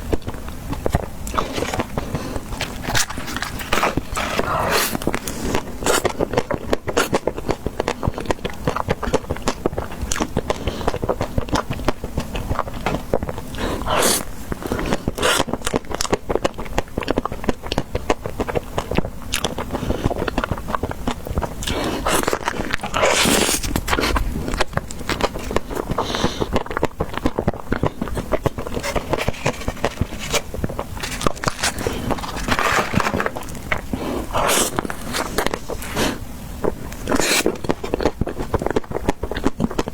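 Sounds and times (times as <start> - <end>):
biting and chewing ice cream: 0.0 - 39.9
wet mouth sounds: 0.0 - 39.9.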